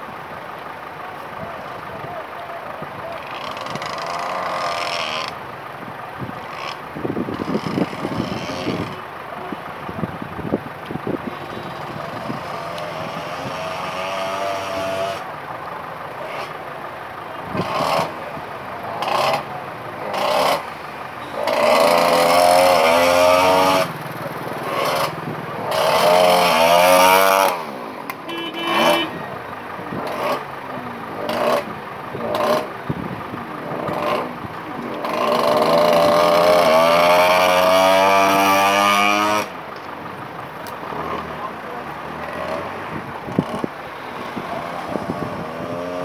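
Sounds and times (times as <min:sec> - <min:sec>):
vehicle engines running: 0:00.0 - 0:46.0
vehicles passing: 0:00.0 - 0:46.0.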